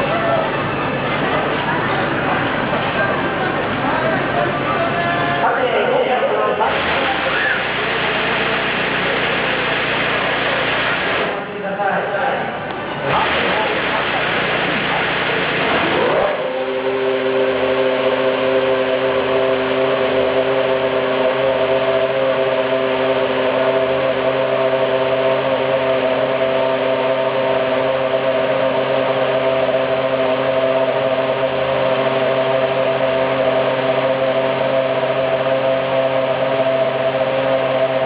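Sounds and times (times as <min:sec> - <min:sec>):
racing engine idling: 0:00.0 - 0:38.0.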